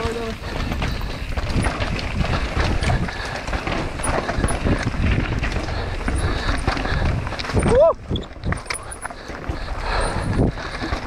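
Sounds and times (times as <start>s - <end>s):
bike clattering and rattling: 0.0s - 11.0s
tyre rumble over dirt and rocks: 0.0s - 11.0s.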